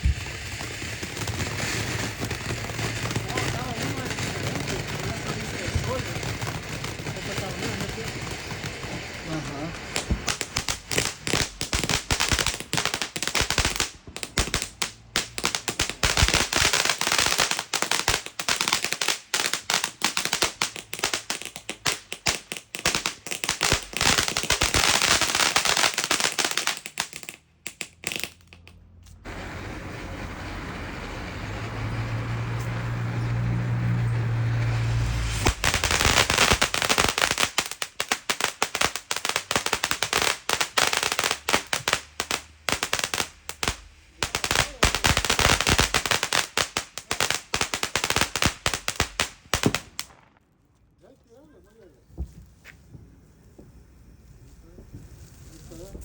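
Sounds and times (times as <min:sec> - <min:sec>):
firecrackers popping: 0:00.0 - 0:56.0.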